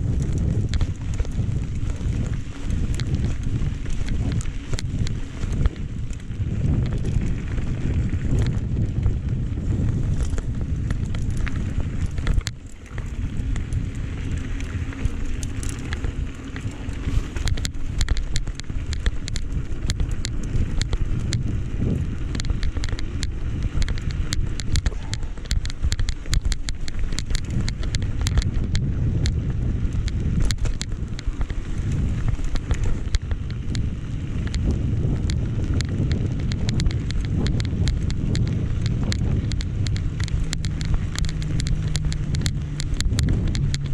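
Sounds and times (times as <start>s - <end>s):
small sharp ticks and clicks: 0.0s - 43.9s
wind buffeting microphone: 0.0s - 43.9s.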